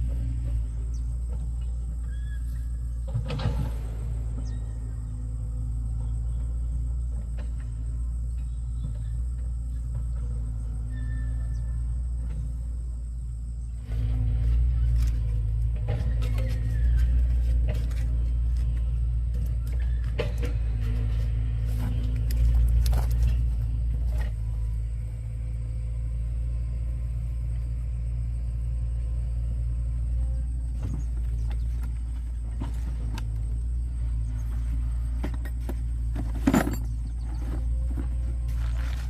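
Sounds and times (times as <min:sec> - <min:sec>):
low motor rumble: 0:00.0 - 0:39.0.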